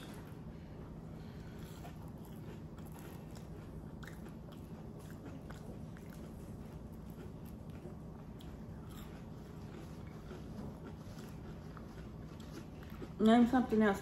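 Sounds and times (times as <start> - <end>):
person chewing food: 0.0 - 13.7
steady low hum: 0.0 - 14.0.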